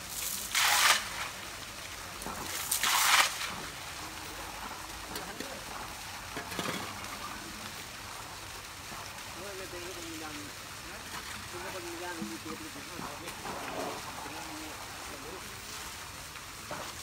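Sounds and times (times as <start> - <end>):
elephant splashing water: 0.0 - 7.9, 8.7 - 17.0.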